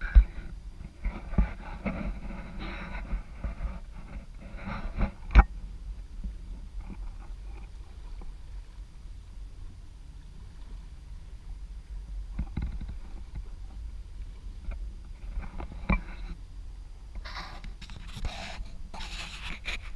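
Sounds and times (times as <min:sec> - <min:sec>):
water splashing along hull: 0:00.0 - 0:19.9
wind rumbling on microphone: 0:00.0 - 0:19.9.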